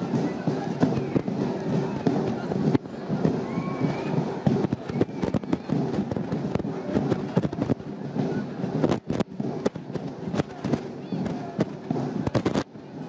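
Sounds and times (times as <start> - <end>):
crowd chattering: 0.0 - 13.0.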